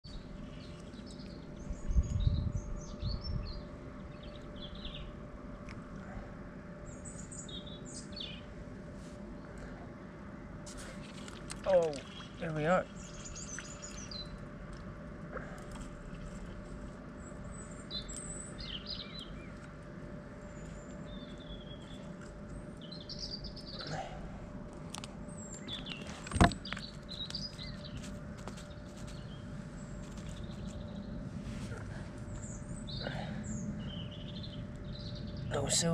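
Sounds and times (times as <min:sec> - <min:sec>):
low rumble on microphone: 0:00.0 - 0:35.9
songbirds chirping: 0:00.0 - 0:35.9
faint steady hum: 0:00.1 - 0:35.9.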